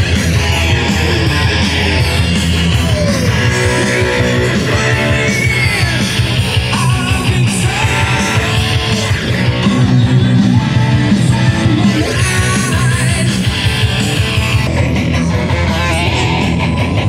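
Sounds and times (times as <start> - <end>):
electric guitar rock lead: 0.0 - 17.0.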